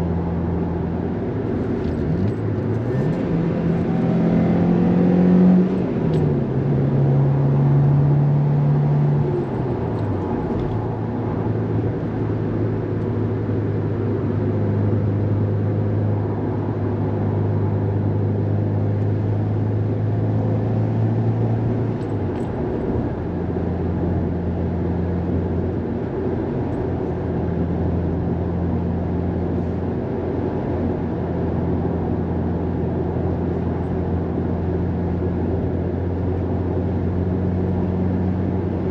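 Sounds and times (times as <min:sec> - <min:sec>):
car engine from inside cabin: 0:00.0 - 0:38.9
tyre and road noise: 0:00.0 - 0:38.9.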